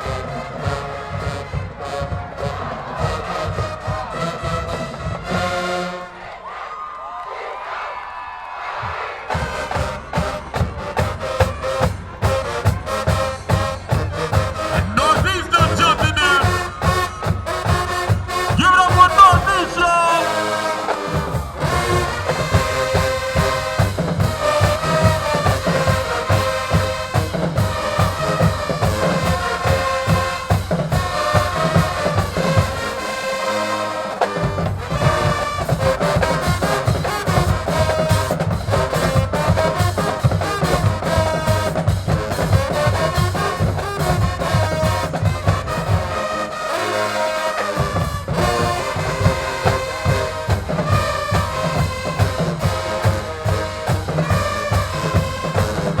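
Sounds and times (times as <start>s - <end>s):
fast steady drum beat: 0.0s - 5.4s, 9.3s - 33.2s, 34.4s - 46.4s, 47.7s - 56.0s
marching band brass: 0.0s - 56.0s.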